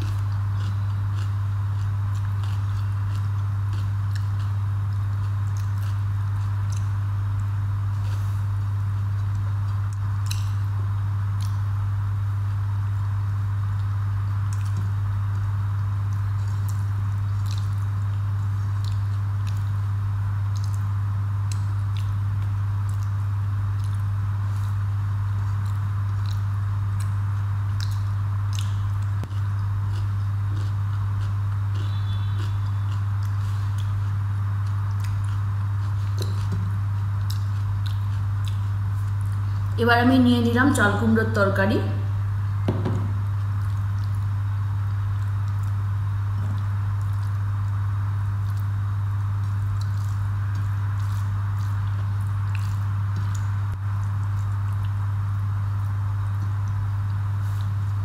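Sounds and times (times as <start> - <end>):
person chewing food: 0.0 - 10.7, 13.7 - 19.8, 20.5 - 24.8, 25.4 - 39.8, 42.7 - 55.1
loud low hum: 7.0 - 58.0.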